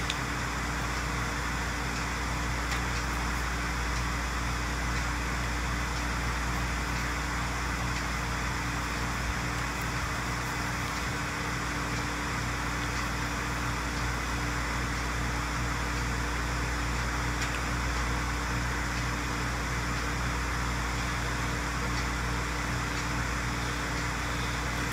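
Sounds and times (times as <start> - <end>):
low constant hum: 0.0 - 24.9.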